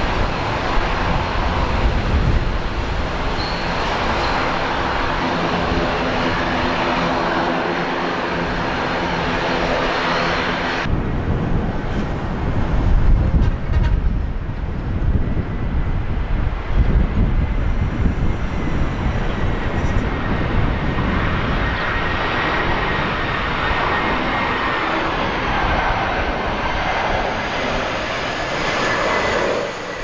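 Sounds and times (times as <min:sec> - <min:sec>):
aircraft engines roaring: 0:00.0 - 0:30.0
wind buffeting microphone: 0:00.0 - 0:30.0.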